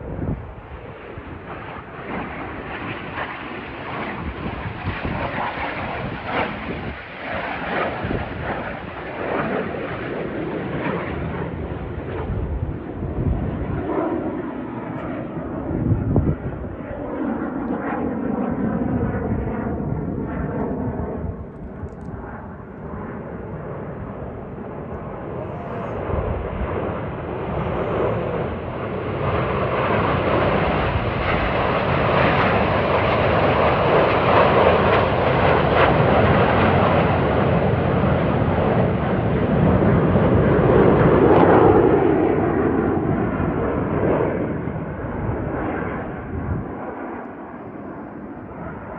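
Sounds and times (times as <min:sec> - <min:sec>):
jet aircraft flying past: 0:00.0 - 0:48.9.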